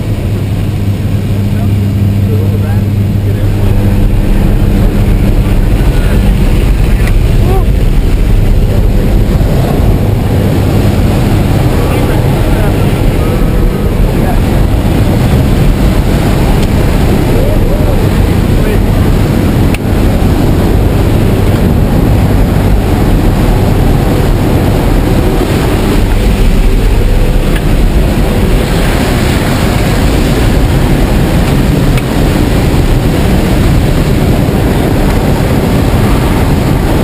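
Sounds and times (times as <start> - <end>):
plane engine and propeller drone: 0.0 - 37.0.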